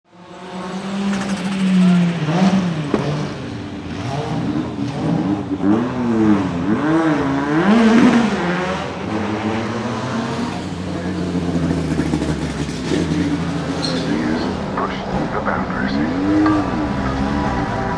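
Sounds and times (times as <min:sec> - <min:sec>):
race car engine accelerating: 0:00.1 - 0:17.9.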